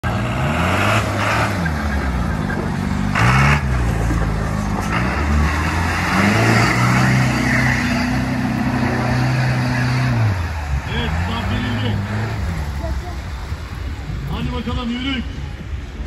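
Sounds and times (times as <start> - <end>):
off-road engine revving: 0.0 - 14.9.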